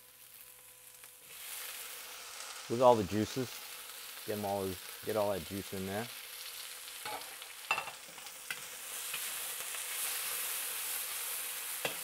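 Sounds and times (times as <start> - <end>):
meat sizzling in a wok: 0.0 - 12.0.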